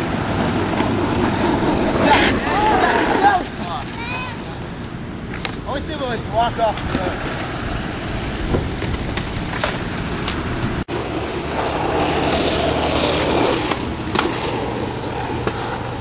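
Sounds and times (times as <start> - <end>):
skateboard clacks: 0.0 - 5.6, 6.7 - 16.0
skateboard wheels rolling on asphalt: 0.0 - 16.0.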